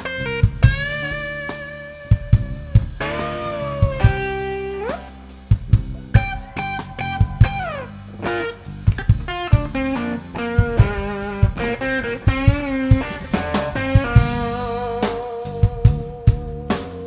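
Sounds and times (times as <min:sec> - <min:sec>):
bass and drums: 0:00.0 - 0:17.0
electric guitar lead: 0:00.0 - 0:17.0.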